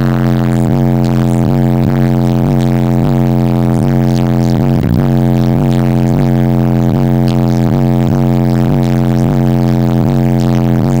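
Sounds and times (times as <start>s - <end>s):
pulsing subwoofer bass tone: 0.0s - 11.0s.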